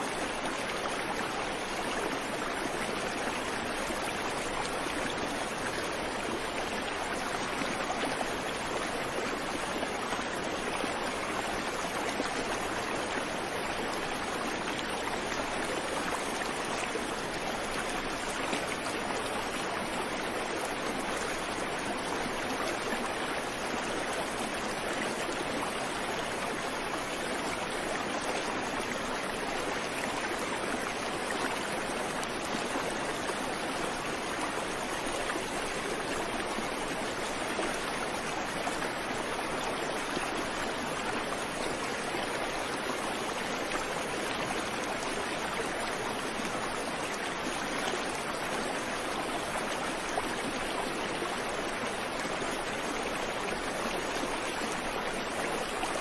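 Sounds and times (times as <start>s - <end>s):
creek water flowing over rocks: 0.0s - 56.0s.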